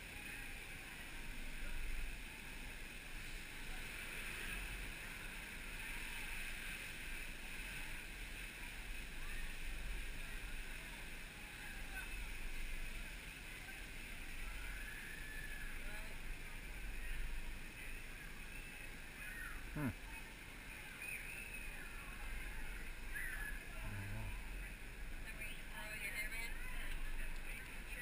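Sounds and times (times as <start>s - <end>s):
distant voices: 0.0s - 28.0s
running water rushing: 0.0s - 28.0s.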